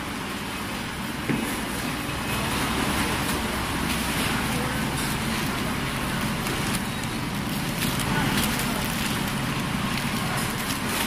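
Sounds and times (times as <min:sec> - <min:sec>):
packaging machinery hum and hiss: 0:00.0 - 0:11.0.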